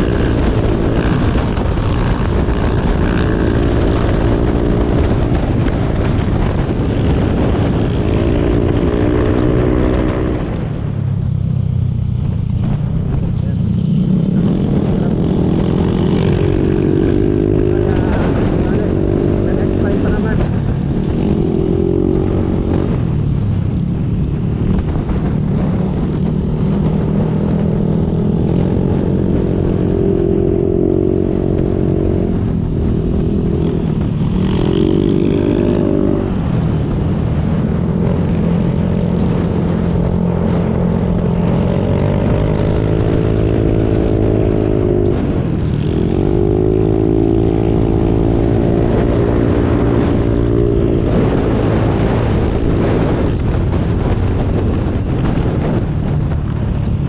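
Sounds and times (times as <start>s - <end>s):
motorcycle engine revving: 0.0s - 57.0s
road and wind noise: 0.0s - 57.0s.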